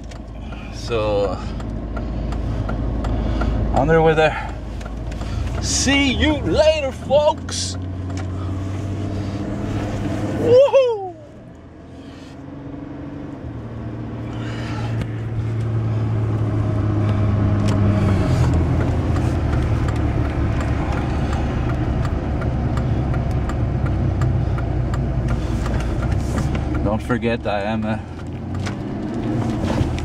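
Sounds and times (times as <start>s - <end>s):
road noise: 0.0s - 30.0s
vehicle engine: 0.0s - 30.0s.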